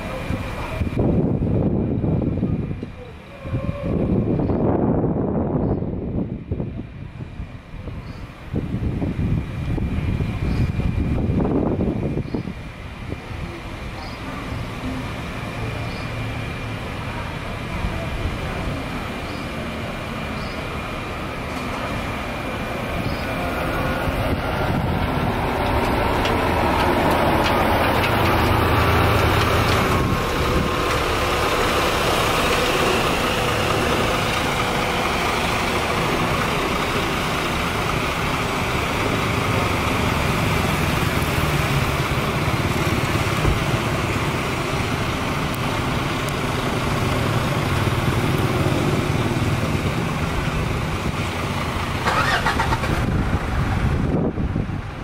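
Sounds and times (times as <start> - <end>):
bus diesel engines rumbling: 0.0 - 55.0.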